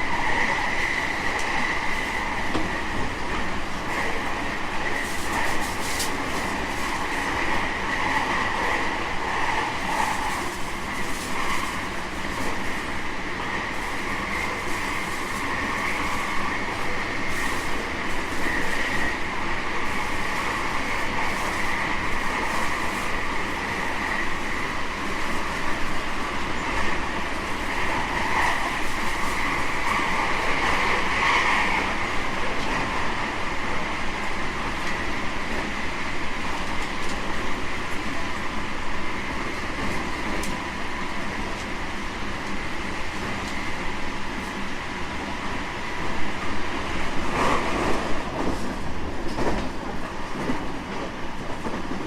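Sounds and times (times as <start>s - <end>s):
electric train hum: 0.0s - 52.0s
train running on rails: 0.0s - 52.0s.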